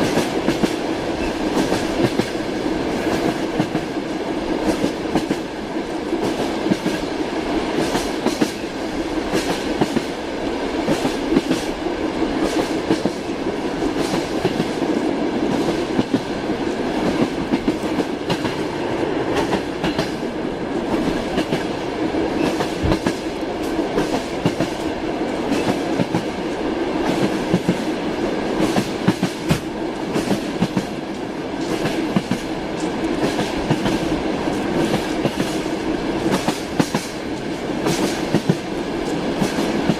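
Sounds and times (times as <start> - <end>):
train rolling rumble: 0.0 - 39.9.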